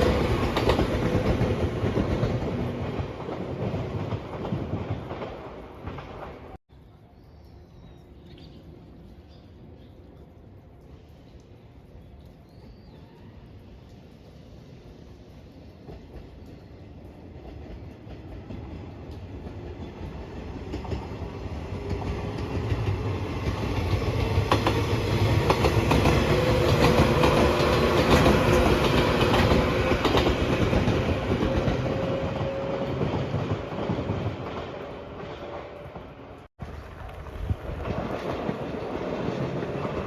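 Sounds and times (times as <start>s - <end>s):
train passing with clacking wheels: 0.0s - 7.0s, 8.4s - 40.0s.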